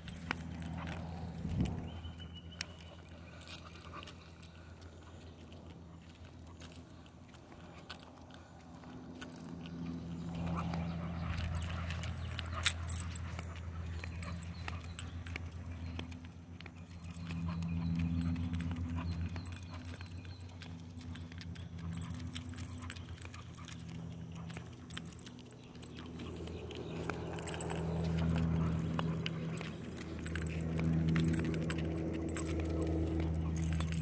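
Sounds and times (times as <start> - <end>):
dog collar jingling and clicking: 0.0 - 34.0
low steady hum: 0.0 - 34.0.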